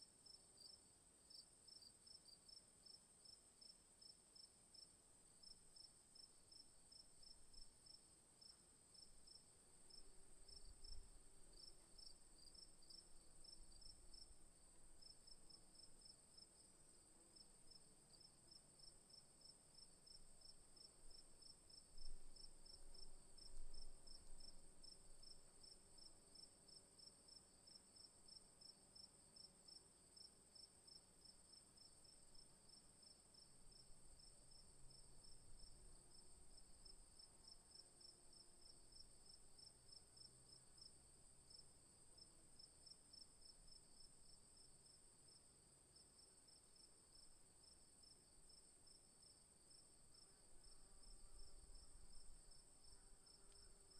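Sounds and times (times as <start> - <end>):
high steady insect trill: 0.2 - 53.9.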